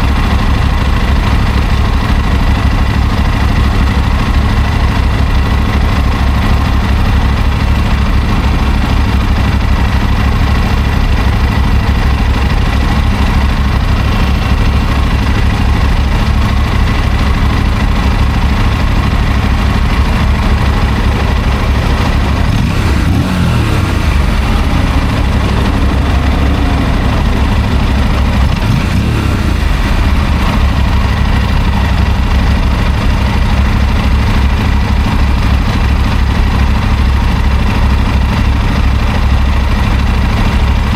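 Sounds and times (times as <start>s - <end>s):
second engine note: 0.0s - 34.5s
motorcycle engine running: 0.0s - 40.9s.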